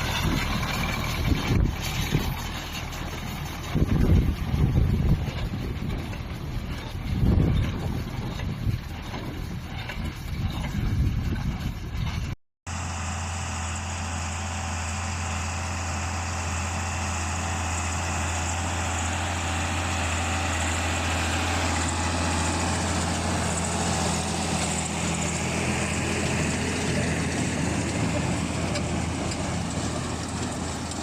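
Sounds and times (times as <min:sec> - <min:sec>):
baler engine drone: 0:00.0 - 0:31.0.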